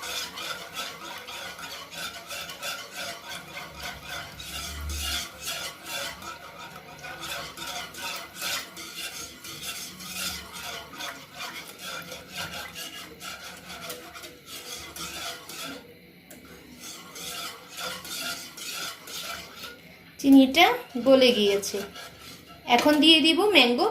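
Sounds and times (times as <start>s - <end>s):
spoon scraping in a pot: 0.0s - 23.9s.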